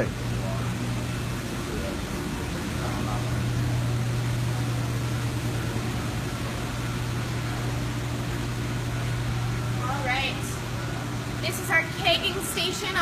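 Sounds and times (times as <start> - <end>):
machinery low hum: 0.0 - 13.0
ventilation hiss: 0.0 - 13.0.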